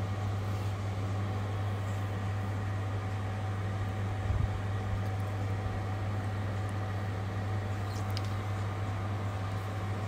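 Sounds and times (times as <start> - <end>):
steady low hum with hiss: 0.0 - 10.0.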